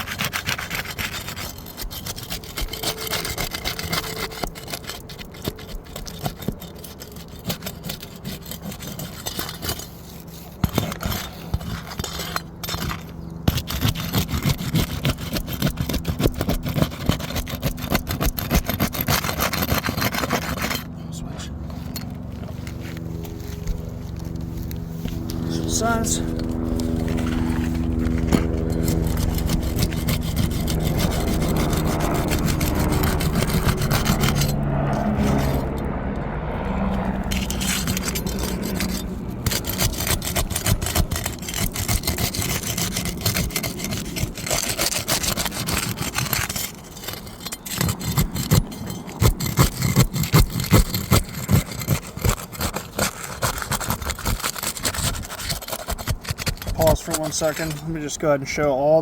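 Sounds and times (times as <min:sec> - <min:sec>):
engine-like hum: 0:00.0 - 0:59.0
pry bar scraping under shingles: 0:00.0 - 0:59.0.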